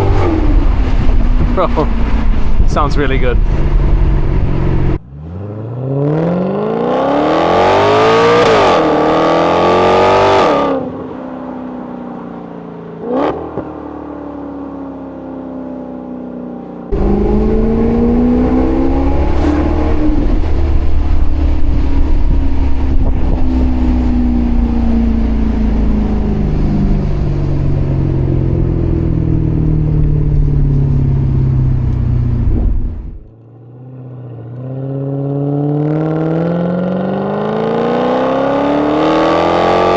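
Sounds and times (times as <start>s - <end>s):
car engine revving: 0.0s - 10.8s, 16.9s - 33.4s, 34.6s - 39.9s.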